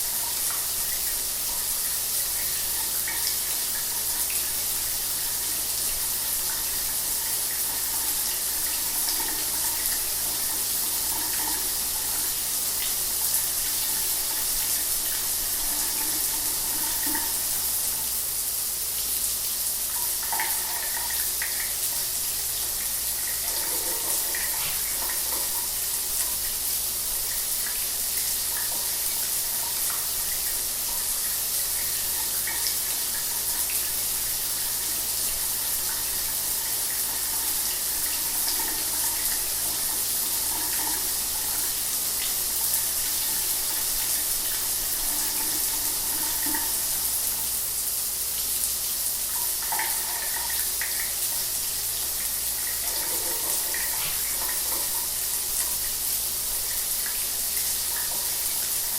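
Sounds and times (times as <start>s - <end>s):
shower water running: 0.0s - 58.9s.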